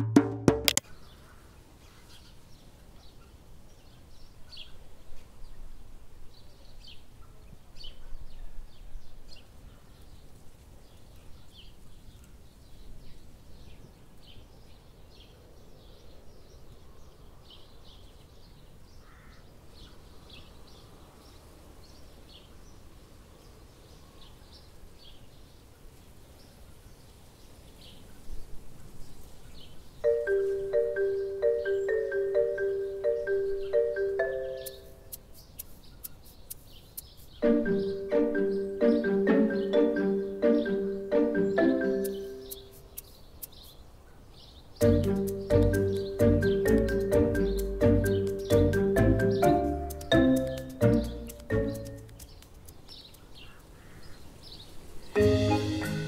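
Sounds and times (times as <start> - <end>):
small birds chirping: 0.8 - 56.0.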